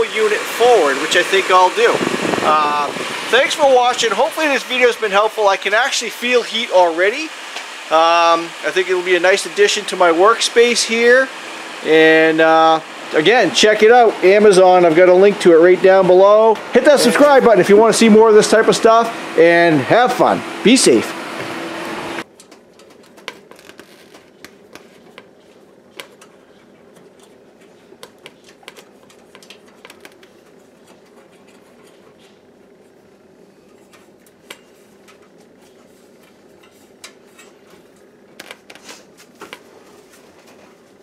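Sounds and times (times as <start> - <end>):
heater fan humming: 0.0 - 41.0.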